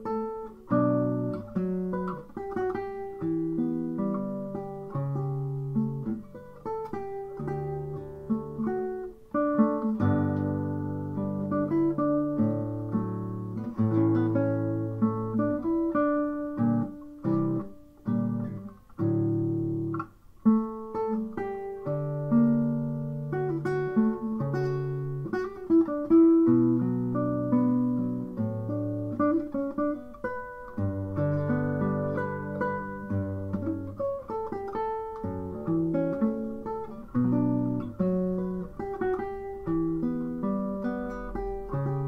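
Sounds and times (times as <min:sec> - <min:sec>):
slow solo classical guitar: 0:00.0 - 0:42.0.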